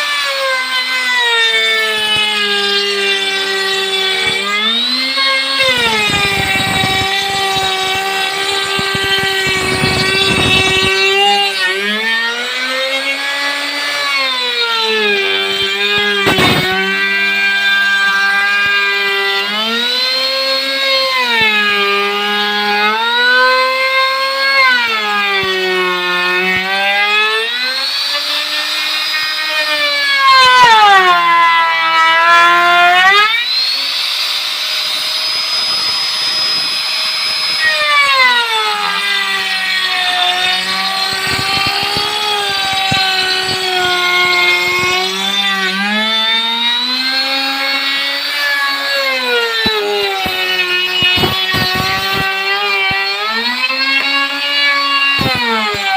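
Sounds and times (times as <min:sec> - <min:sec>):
electric drill motor running: 0:00.0 - 0:30.9, 0:31.5 - 0:55.9.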